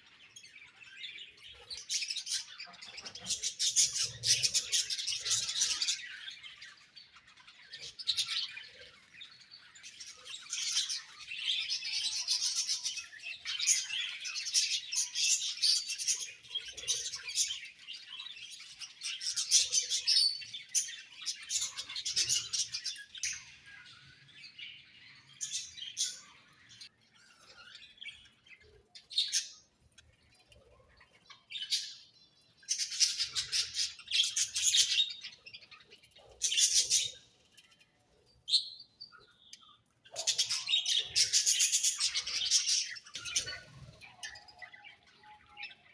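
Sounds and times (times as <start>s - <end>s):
budgerigars chattering and chirping: 0.2s - 38.3s, 39.1s - 45.9s.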